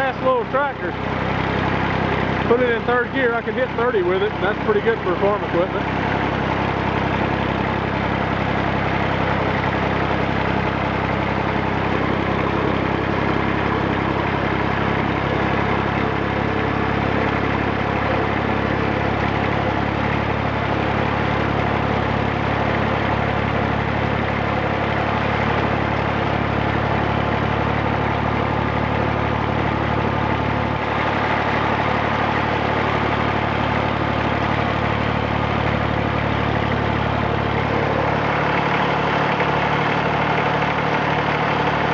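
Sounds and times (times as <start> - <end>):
diesel tractor engine running: 0.0 - 41.9.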